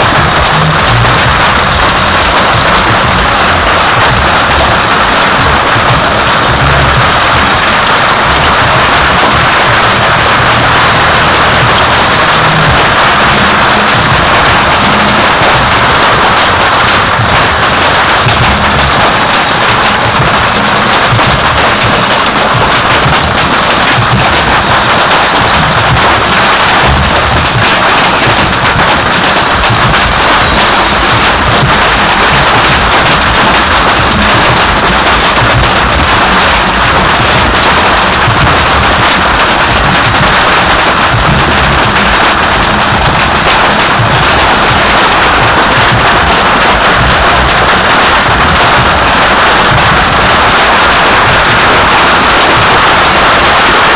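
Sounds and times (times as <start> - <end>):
fireworks crackling and hissing: 0.0 - 53.9.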